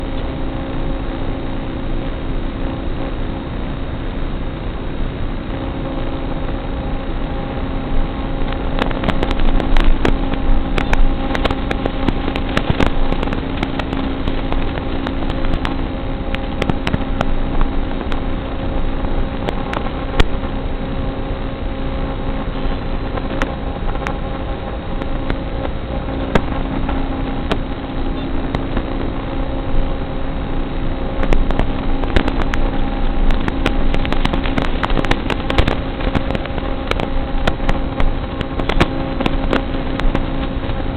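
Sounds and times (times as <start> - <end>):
noisy hiss: 0.0 - 40.9.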